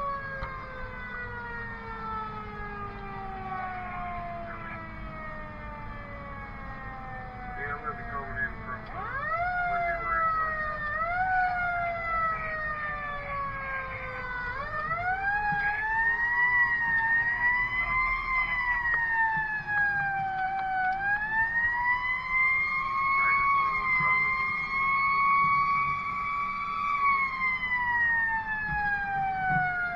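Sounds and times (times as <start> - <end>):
engine and road rumble: 0.0 - 29.9
fire engine siren wailing: 0.0 - 29.9.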